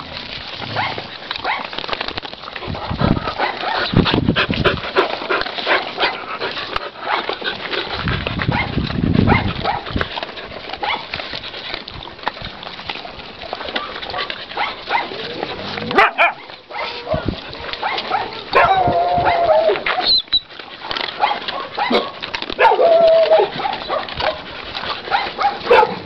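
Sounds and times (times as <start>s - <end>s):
dogs eating from metal bowls: 0.0s - 26.0s.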